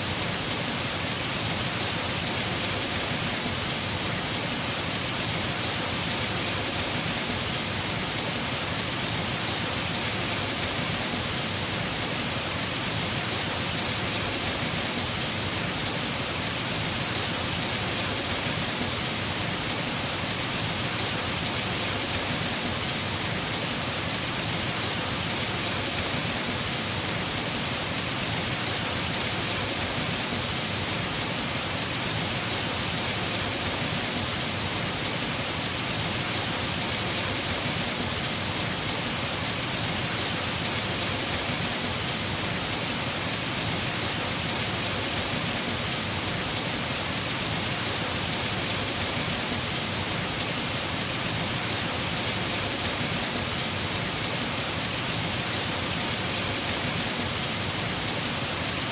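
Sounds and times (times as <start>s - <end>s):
heavy rain on a roof: 0.0s - 58.9s.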